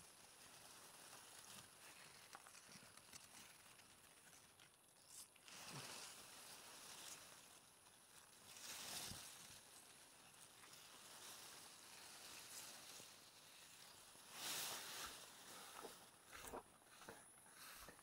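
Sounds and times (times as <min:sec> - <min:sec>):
grass rustling: 0:00.0 - 0:18.0.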